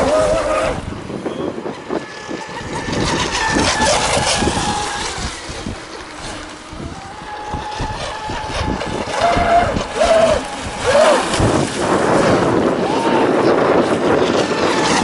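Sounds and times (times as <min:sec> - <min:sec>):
electric model boats whining: 0:00.0 - 0:15.0
wind buffeting the microphone: 0:00.0 - 0:15.0.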